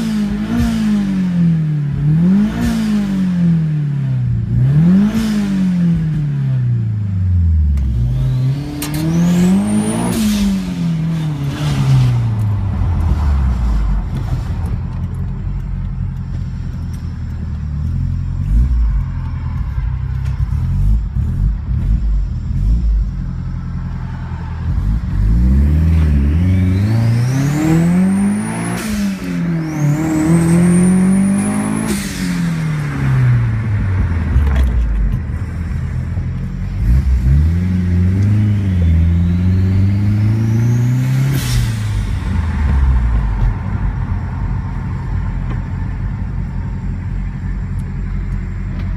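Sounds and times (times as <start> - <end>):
car engine accelerating: 0.0 - 48.9.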